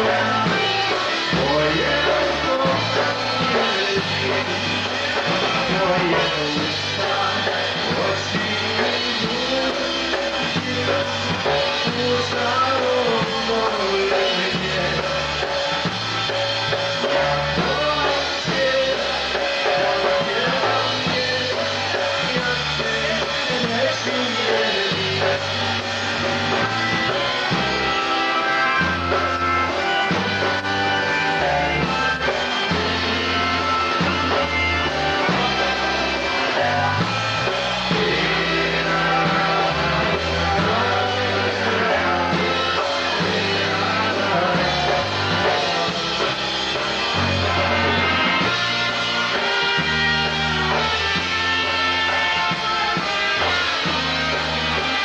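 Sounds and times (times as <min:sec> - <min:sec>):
bass line: 0:00.0 - 0:55.0
polka band playing: 0:00.0 - 0:55.0.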